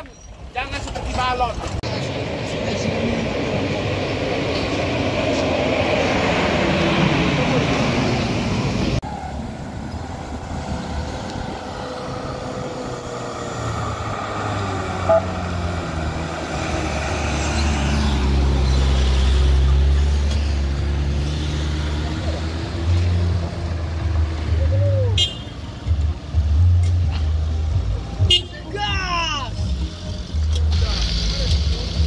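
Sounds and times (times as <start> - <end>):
heavy truck engine rumbling: 0.0 - 32.0.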